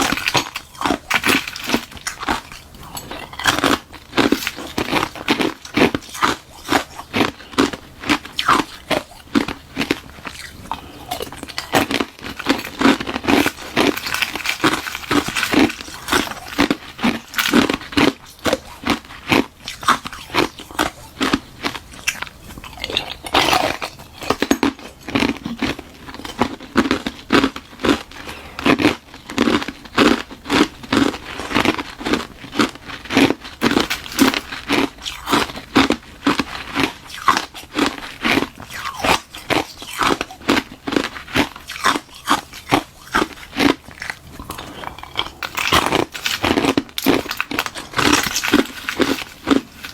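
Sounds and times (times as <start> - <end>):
chewing hard ice crunches: 0.0 - 49.9.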